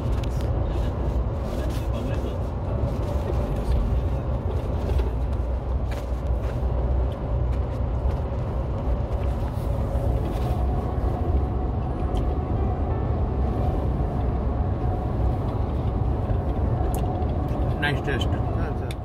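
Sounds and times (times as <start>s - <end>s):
car rumble from inside cabin: 0.0s - 19.0s.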